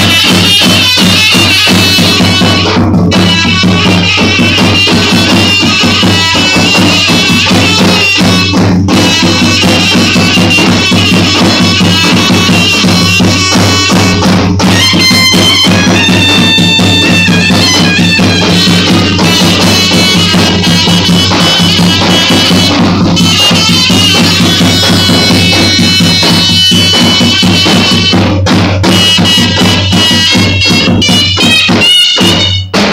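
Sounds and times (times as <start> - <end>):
wind instrument melody: 0.0 - 32.8
steady drum beat: 0.0 - 32.9.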